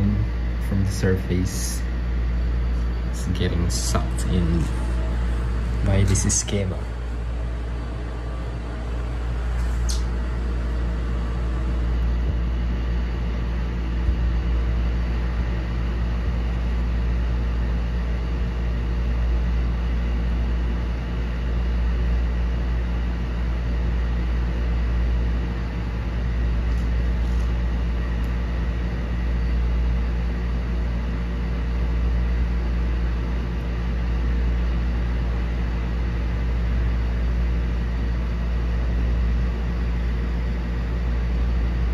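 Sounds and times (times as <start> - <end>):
aquarium filter humming: 0.0 - 41.9.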